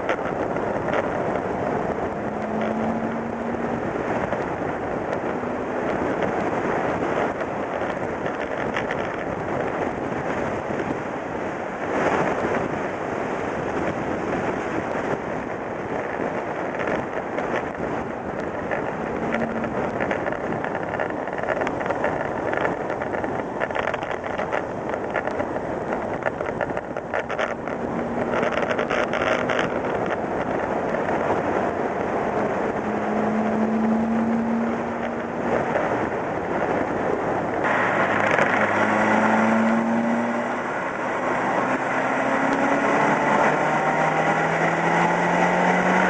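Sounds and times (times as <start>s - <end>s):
car engine: 0.0s - 46.0s
tyre and wind noise: 0.0s - 46.0s.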